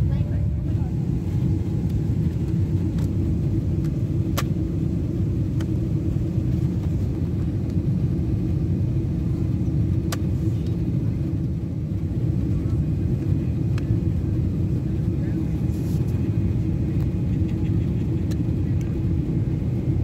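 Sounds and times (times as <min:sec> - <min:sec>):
airplane cabin drone: 0:00.0 - 0:20.0.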